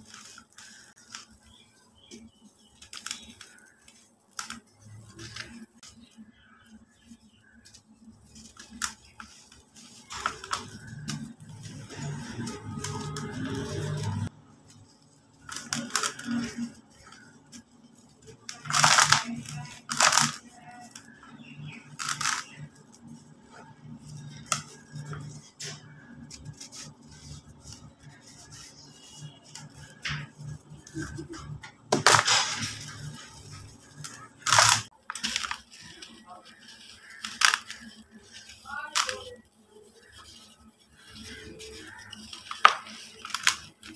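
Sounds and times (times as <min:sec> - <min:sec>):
grit crumbling: 0:00.0 - 0:43.9.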